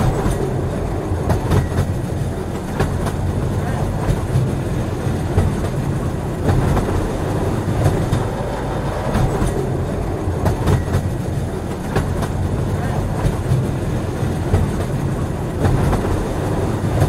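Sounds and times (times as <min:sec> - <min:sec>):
train rumbling on rails: 0:00.0 - 0:17.0
wheels clicking over rail joints: 0:00.0 - 0:17.0.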